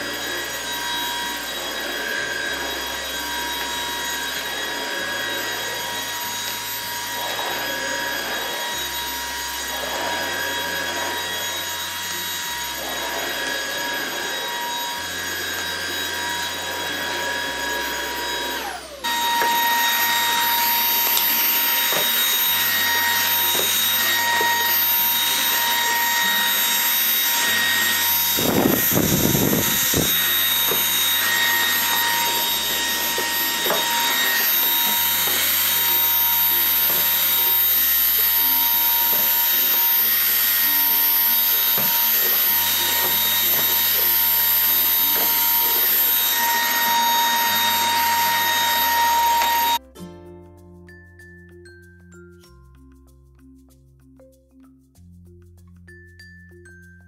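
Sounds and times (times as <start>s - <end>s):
stick vacuum running: 0.0s - 49.8s.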